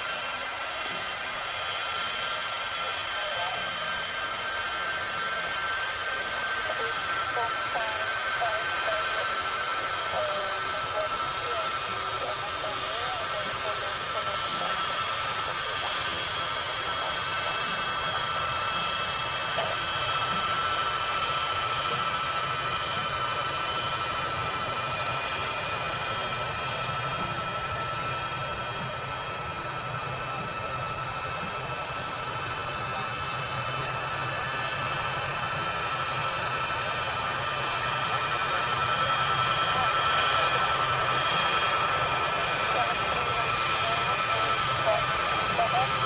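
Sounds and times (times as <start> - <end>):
jet engine whine: 0.0 - 46.0.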